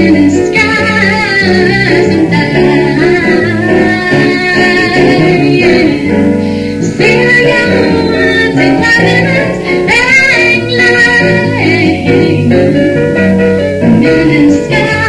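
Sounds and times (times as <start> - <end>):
woman singing: 0.0 - 13.2, 13.8 - 15.0
piano: 0.0 - 15.0.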